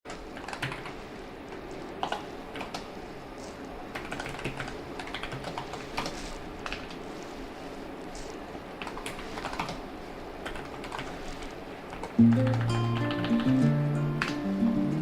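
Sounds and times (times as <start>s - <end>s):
steady background hum: 0.1s - 15.0s.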